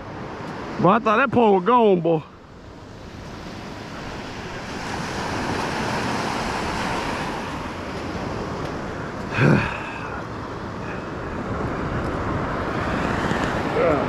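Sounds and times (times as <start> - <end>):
ocean surf washing up beach: 0.0 - 14.0.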